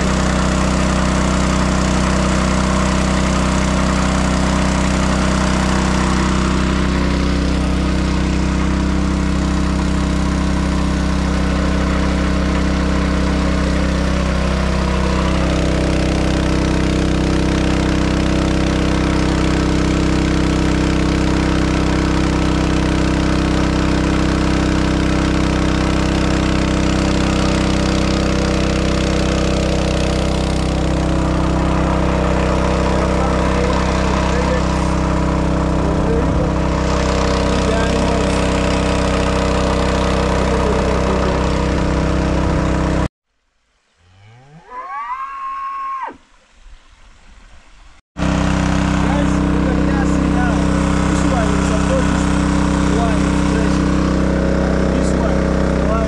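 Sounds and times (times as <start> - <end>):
small engine-driven water pump running: 0.0 - 43.1, 48.2 - 56.0.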